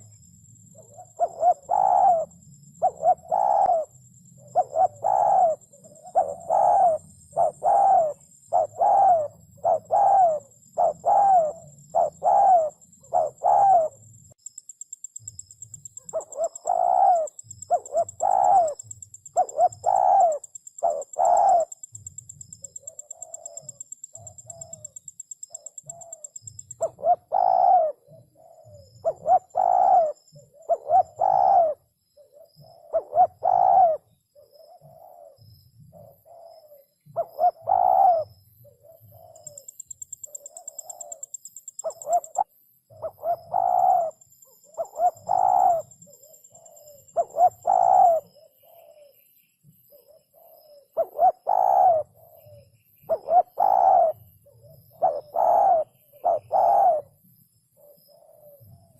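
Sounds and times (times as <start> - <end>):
dove cooing: 0.0 - 14.1, 15.2 - 49.2, 49.9 - 58.9.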